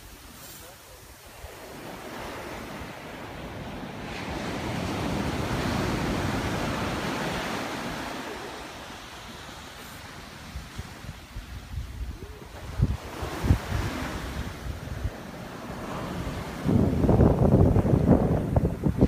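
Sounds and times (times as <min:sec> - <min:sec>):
ocean surf breaking on a beach: 0:00.0 - 0:19.0
wind on the microphone: 0:00.0 - 0:19.0.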